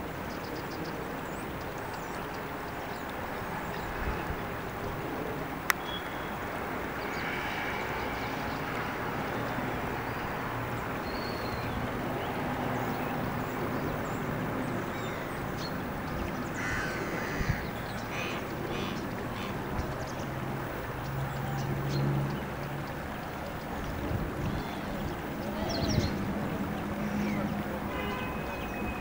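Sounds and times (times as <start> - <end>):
stream running over stones: 0.0 - 29.0.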